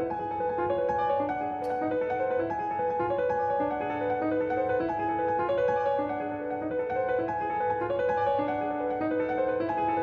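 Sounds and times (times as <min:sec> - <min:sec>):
grand piano fast repeating notes: 0:00.0 - 0:10.0.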